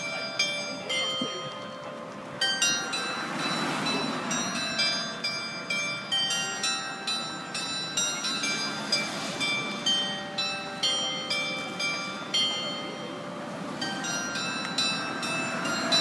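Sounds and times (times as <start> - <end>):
clock tower bell chime: 0.0 - 16.0.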